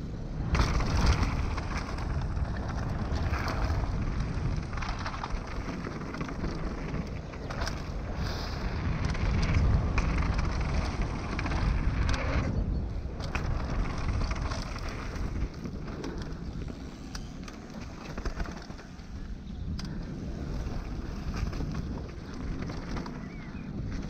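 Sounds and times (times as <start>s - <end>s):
wind buffeting microphone: 0.0s - 24.0s
tyres rolling over dirt: 0.3s - 24.0s
bike clicks and knocks: 0.4s - 24.0s.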